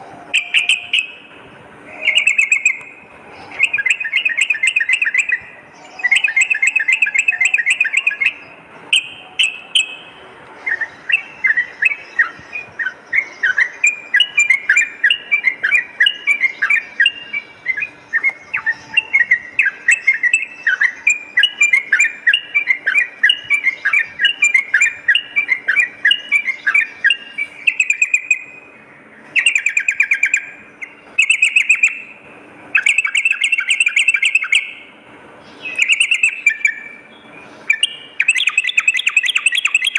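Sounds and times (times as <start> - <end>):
bird chirping: 0.0 - 39.9
bird trilled chattering: 0.3 - 1.3, 1.9 - 28.7, 29.3 - 32.1, 32.8 - 34.9, 35.5 - 37.1, 37.7 - 39.9.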